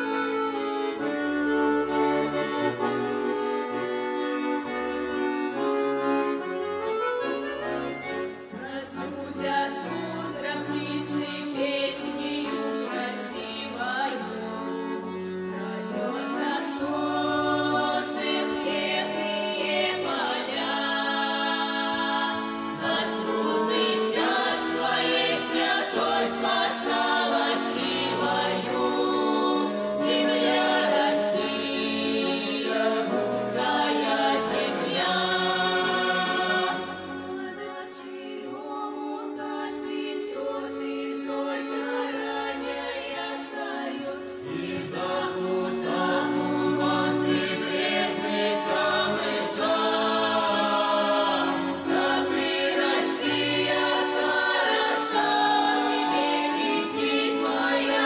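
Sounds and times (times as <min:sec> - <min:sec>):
accordion playing folk song: 0:00.0 - 0:58.0
children's choir singing: 0:08.6 - 0:58.0.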